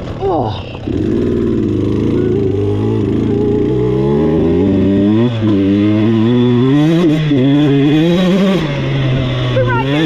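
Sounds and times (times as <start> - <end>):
two-stroke dirt bike accelerating: 0.0 - 10.0.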